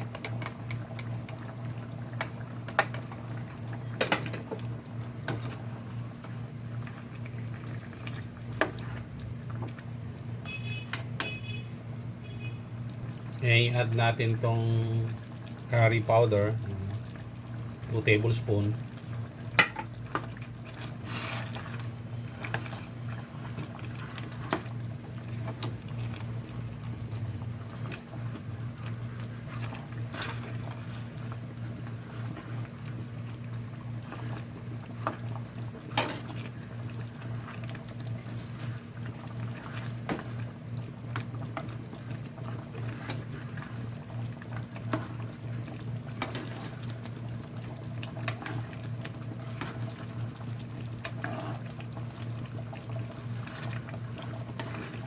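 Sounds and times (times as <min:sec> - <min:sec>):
sauce bubbling in a pot: 0:00.0 - 0:55.0.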